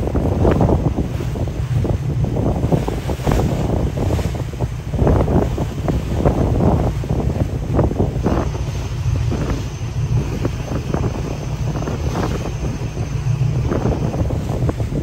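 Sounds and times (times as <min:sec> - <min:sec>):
waves slapping against boat: 0:00.0 - 0:15.0
wind buffeting microphone: 0:00.0 - 0:15.0.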